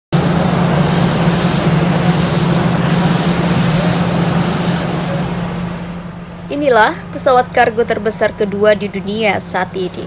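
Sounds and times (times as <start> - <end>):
jet engines roaring: 0.1 - 10.0.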